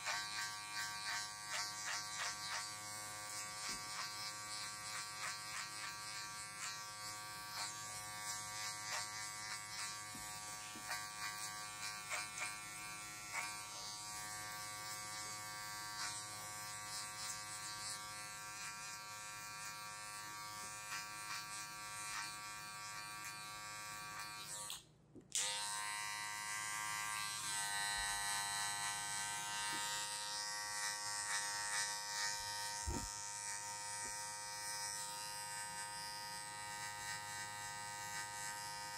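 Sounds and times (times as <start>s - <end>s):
electric hair clippers buzzing: 0.0s - 38.9s.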